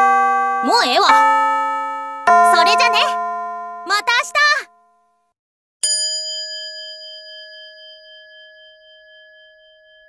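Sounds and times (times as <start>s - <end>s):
bell-like chime ringing: 0.0s - 5.1s, 5.8s - 10.0s.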